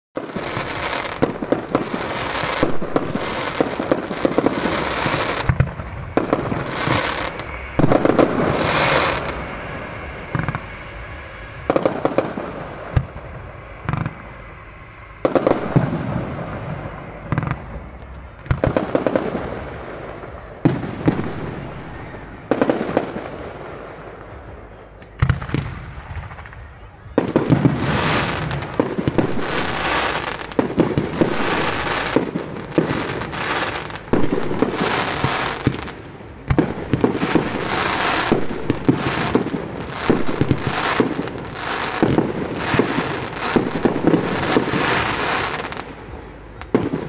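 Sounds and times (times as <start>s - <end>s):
fireworks bursting with bangs: 0.2s - 47.0s
fireworks crackling: 0.2s - 47.0s.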